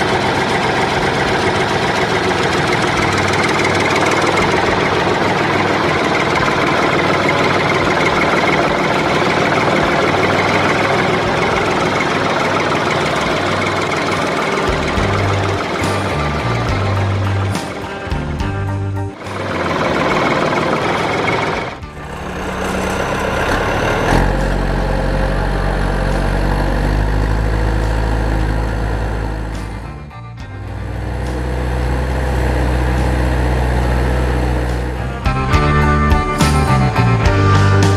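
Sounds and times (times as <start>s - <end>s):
engine knocking rhythmically: 0.0s - 37.9s.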